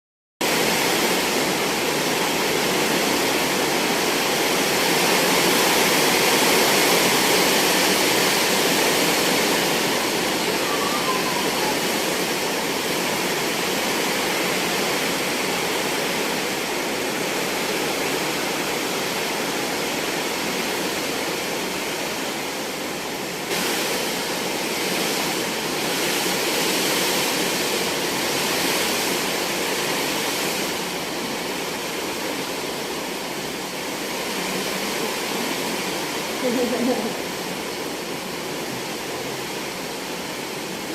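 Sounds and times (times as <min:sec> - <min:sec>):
heavy wind-driven rain: 0:00.4 - 0:40.9.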